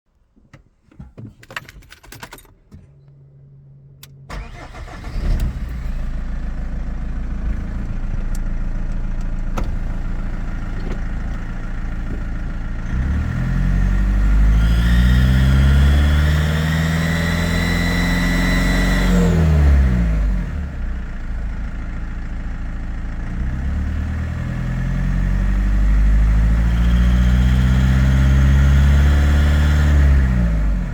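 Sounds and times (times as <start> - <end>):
car engine starting and revving: 4.0 - 30.9.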